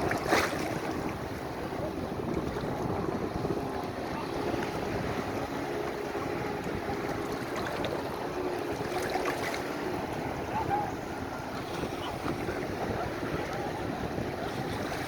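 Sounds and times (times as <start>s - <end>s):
sea waves washing in: 0.0s - 15.0s
wind buffeting microphone: 0.0s - 15.0s.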